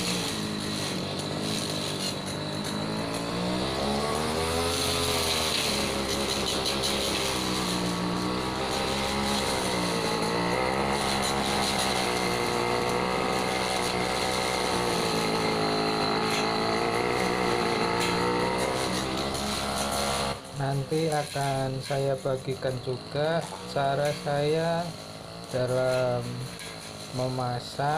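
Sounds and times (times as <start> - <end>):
brush cutter cutting foliage: 0.0 - 27.9.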